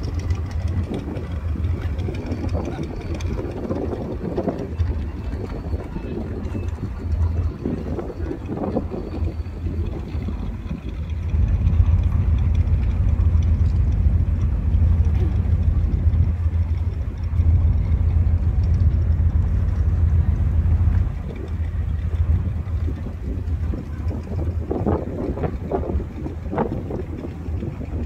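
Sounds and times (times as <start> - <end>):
boat engine droning: 0.0 - 28.0
wind on microphone: 0.0 - 28.0.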